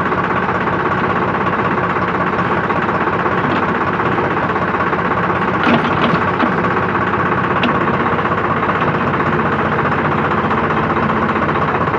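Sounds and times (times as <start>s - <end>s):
backhoe engine running: 0.0s - 11.9s.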